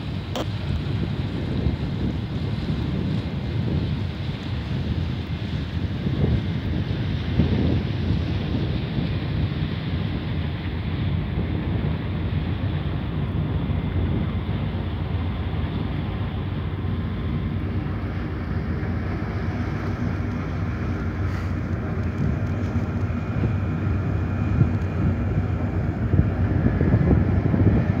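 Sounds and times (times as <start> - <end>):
ship engines droning: 0.0 - 28.0
wind gusts on microphone: 0.0 - 28.0.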